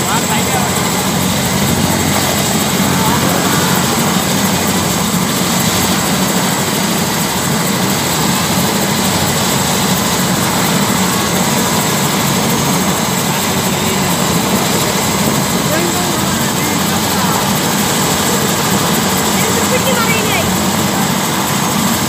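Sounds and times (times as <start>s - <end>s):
helicopter rotor noise: 0.0s - 22.0s
helicopter turbine whine: 0.0s - 22.0s.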